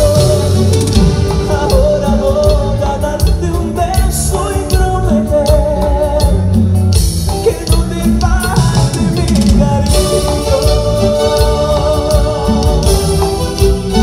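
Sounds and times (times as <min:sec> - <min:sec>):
lead melody: 0:00.0 - 0:14.0
live band playing: 0:00.0 - 0:14.0.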